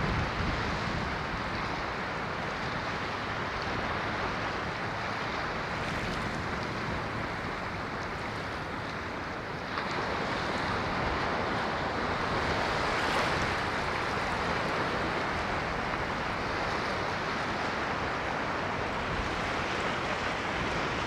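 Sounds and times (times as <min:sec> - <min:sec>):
ocean waves washing on shore: 0:00.0 - 0:21.0.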